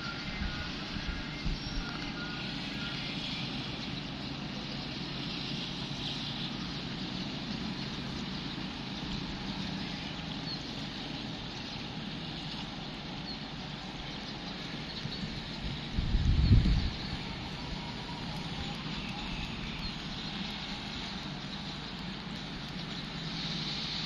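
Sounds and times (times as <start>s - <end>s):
distant diesel locomotive rumble: 0.0s - 24.0s.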